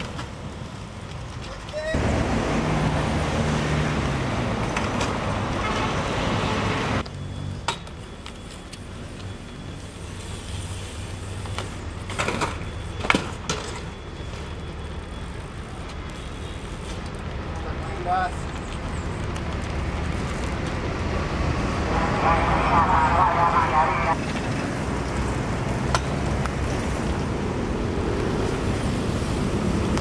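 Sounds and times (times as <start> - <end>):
road traffic: 0.0 - 30.0
street background: 0.0 - 30.0.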